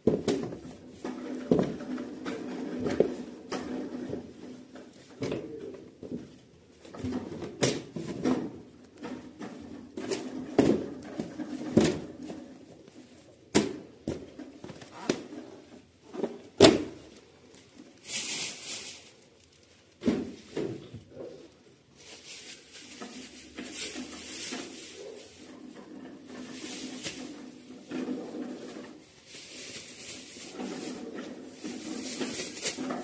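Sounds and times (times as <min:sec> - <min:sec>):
containers and drawers clattering: 0:00.0 - 0:17.3, 0:20.0 - 0:33.0.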